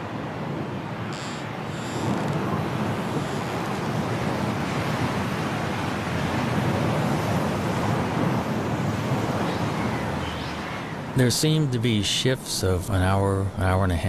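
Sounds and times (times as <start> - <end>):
wind buffeting microphone: 0.0 - 12.4
storm wind rushing: 0.0 - 12.6.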